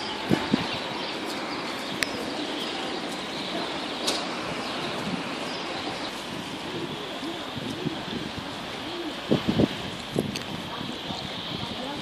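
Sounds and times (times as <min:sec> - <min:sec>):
pigeons cooing: 0:00.0 - 0:09.8
railway station background noise: 0:00.0 - 0:12.0.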